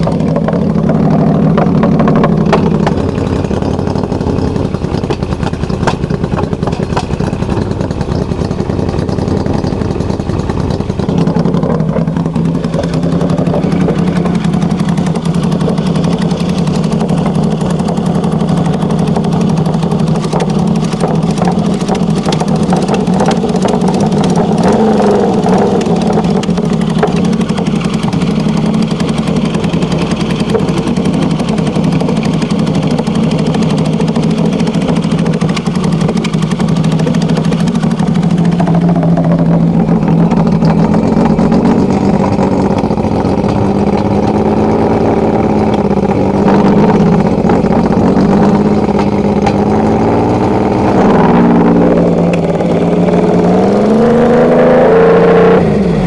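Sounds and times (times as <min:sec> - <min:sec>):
motorcycle engine idling: 0:00.0 - 0:54.8.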